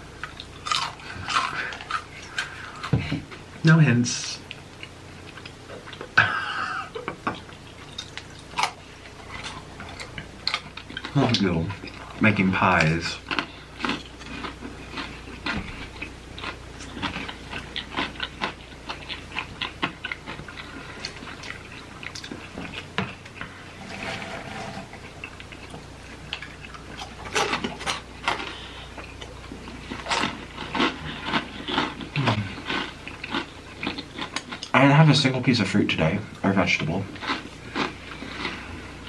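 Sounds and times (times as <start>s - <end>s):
chewing crunchy snacks: 0.2s - 3.4s, 7.4s - 23.6s, 25.0s - 35.5s, 36.4s - 39.0s.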